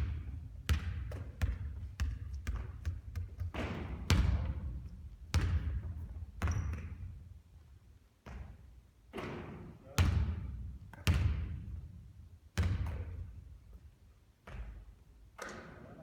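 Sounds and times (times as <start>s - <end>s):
basketball bouncing on court: 0.0s - 7.2s, 8.2s - 11.8s, 12.5s - 13.4s, 14.4s - 15.8s.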